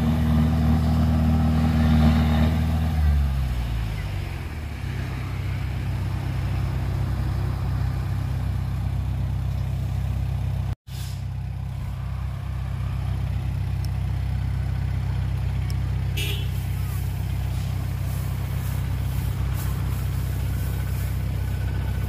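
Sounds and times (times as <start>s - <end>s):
bulldozer diesel engine: 0.0s - 22.0s
dump truck diesel engine: 0.0s - 22.0s.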